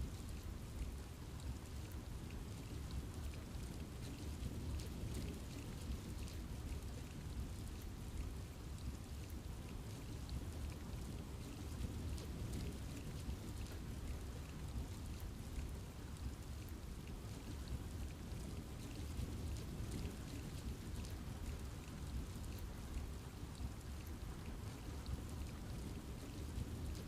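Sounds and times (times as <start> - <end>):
rain pattering on trees: 0.0 - 27.0.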